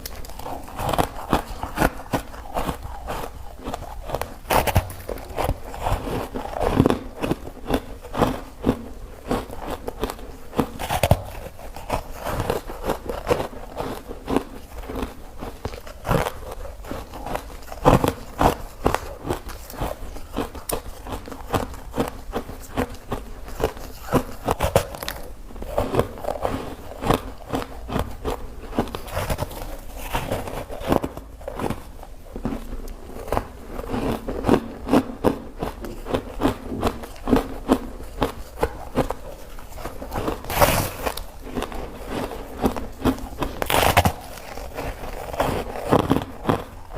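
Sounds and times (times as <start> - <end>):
ice being bitten and crunched: 0.0 - 46.9.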